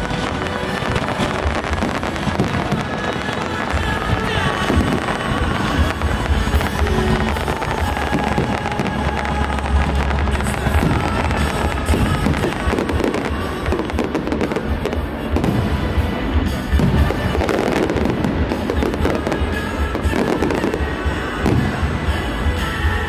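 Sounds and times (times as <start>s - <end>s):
fireworks bursting: 0.0s - 23.0s
music playing: 0.0s - 23.0s.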